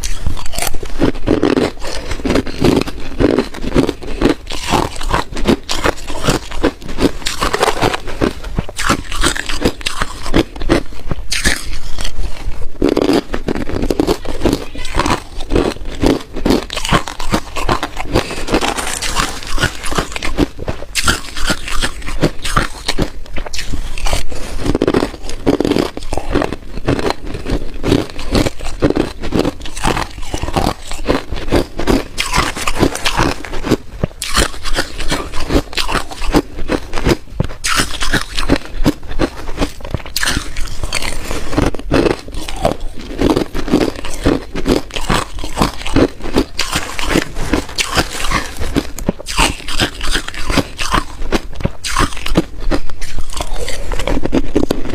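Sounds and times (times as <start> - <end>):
ice cubes crunching in mouth: 0.0 - 54.9.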